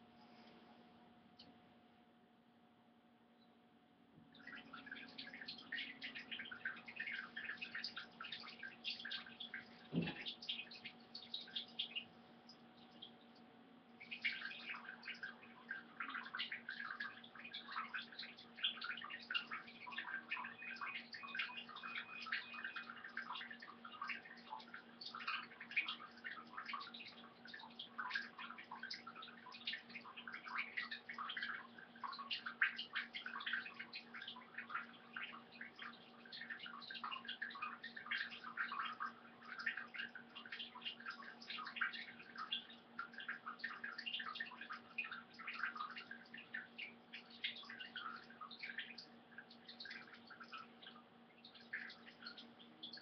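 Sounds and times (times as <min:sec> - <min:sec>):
kitten peeing into toilet water: 0:04.2 - 0:53.0.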